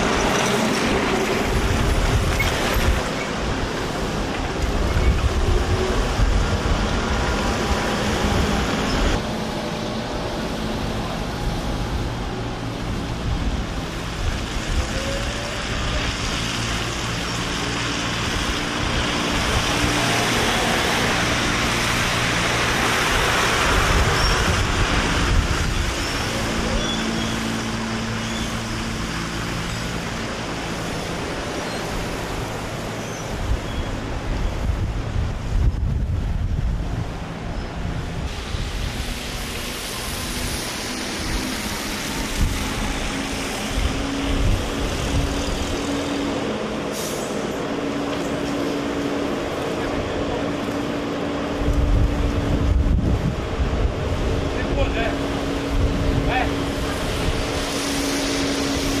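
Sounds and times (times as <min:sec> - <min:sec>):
general traffic noise: 0:00.0 - 0:59.0.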